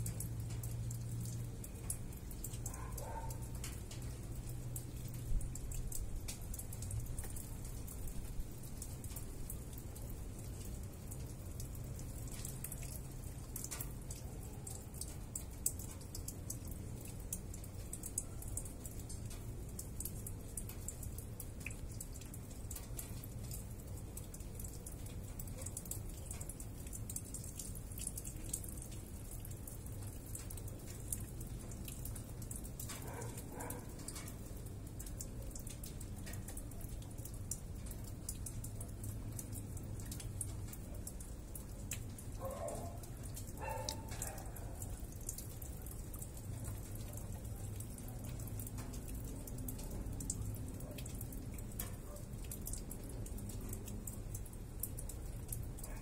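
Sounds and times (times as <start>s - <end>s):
rain falling: 0.0s - 56.0s
water drops ticking on hard surface: 0.0s - 56.0s.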